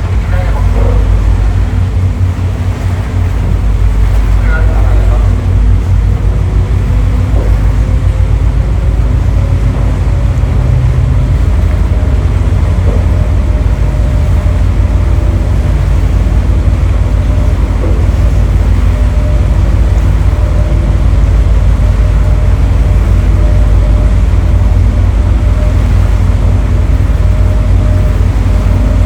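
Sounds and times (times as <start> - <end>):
boat engines rumbling: 0.0 - 29.0.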